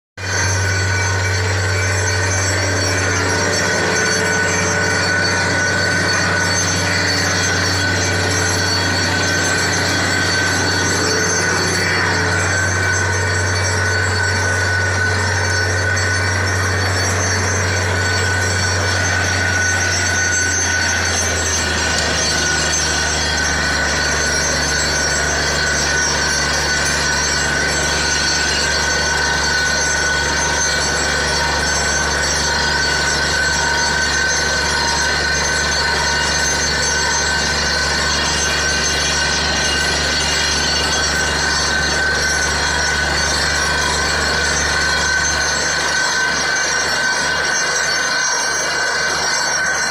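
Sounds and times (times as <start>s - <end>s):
borewell machinery drone: 0.2s - 49.9s.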